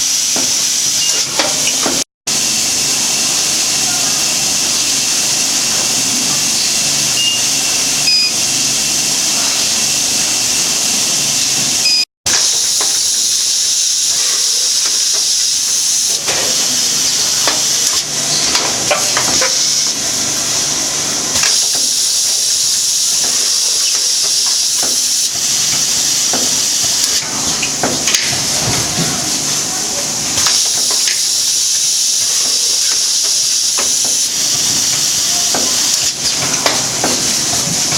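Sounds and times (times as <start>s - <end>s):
machine air hiss: 0.0s - 37.9s.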